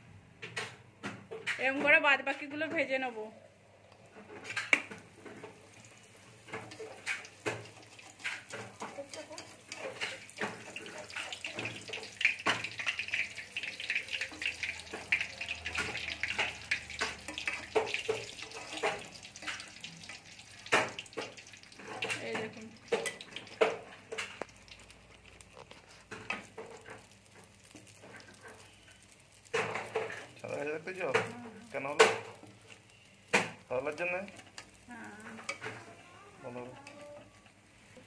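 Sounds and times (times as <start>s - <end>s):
dough deep-frying in oil: 3.8s - 38.0s.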